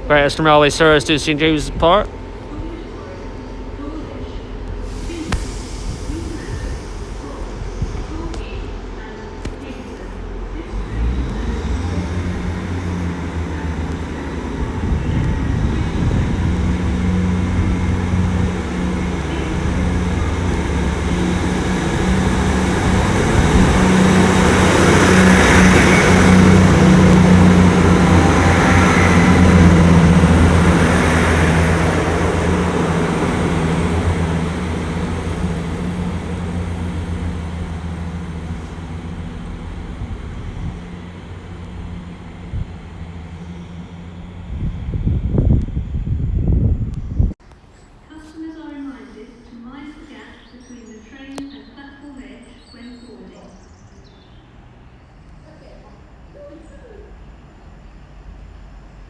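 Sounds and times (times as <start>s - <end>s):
wheel and rail noise: 0.0s - 48.3s
train diesel engines running: 0.0s - 59.0s.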